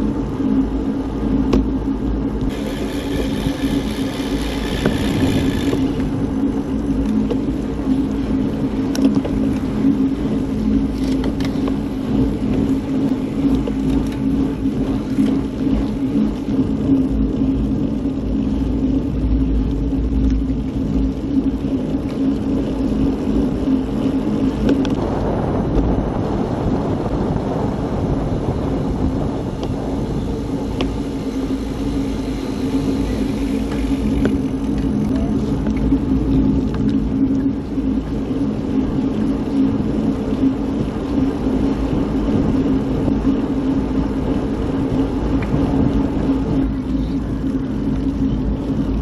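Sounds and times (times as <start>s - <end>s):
broad rush of noise: 0.0s - 49.0s
low hum: 0.0s - 49.0s
road rumble: 0.0s - 49.0s
wind noise: 0.0s - 49.0s.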